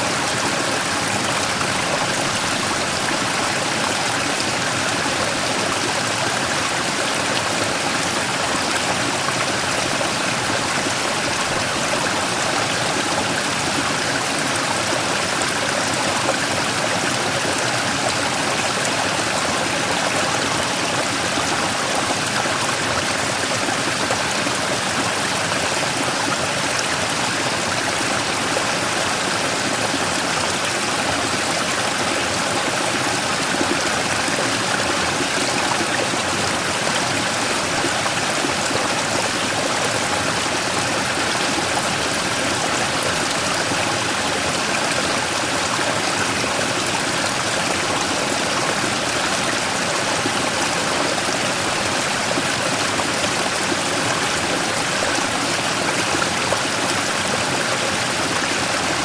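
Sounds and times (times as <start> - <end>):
stream rushing over rock: 0.0 - 59.0.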